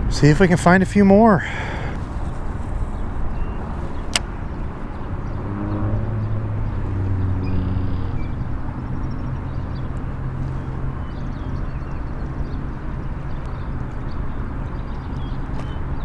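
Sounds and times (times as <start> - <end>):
distant engine droning: 0.0 - 16.0
wind on microphone: 2.0 - 16.0.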